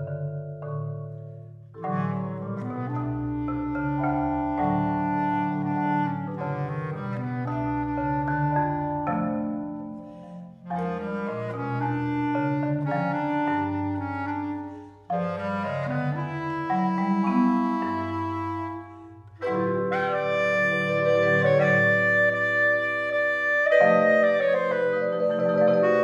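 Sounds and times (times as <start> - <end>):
marimba and vibraphone notes: 0.0 - 22.5, 23.7 - 26.0
bass clarinet: 0.0 - 26.0.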